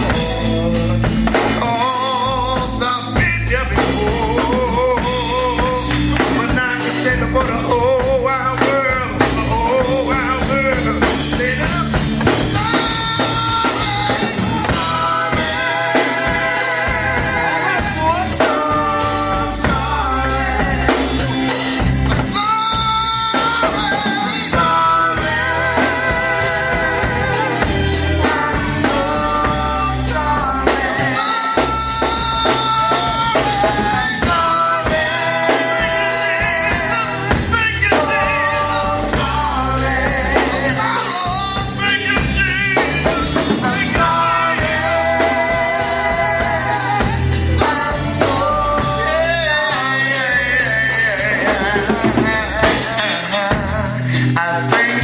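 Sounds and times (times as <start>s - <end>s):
backing band with drums: 0.0s - 55.0s
voices singing held notes: 0.0s - 55.0s.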